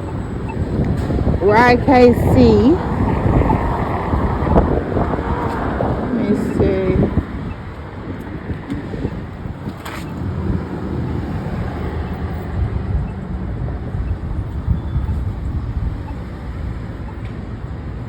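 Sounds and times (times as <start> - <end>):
street traffic rumble: 0.0 - 18.0
wind buffeting microphone: 0.0 - 18.0.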